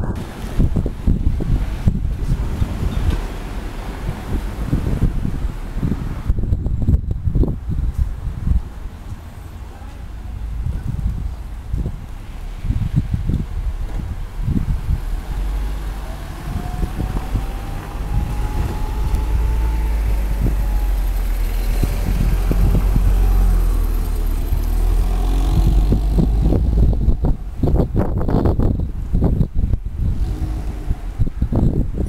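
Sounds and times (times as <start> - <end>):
low rumble: 0.0 - 32.0
vehicle whine: 0.0 - 32.0
cars driving past: 0.2 - 6.4, 7.7 - 28.4, 29.9 - 31.6.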